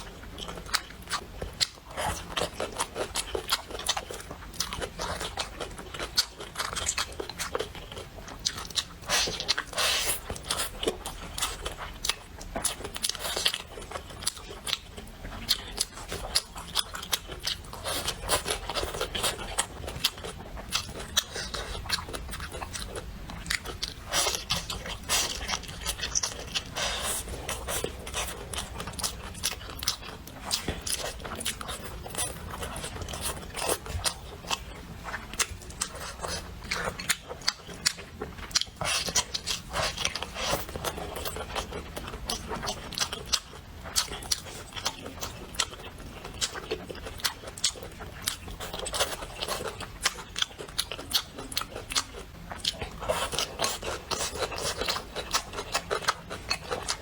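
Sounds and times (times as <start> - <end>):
person chewing and biting: 0.0 - 57.0.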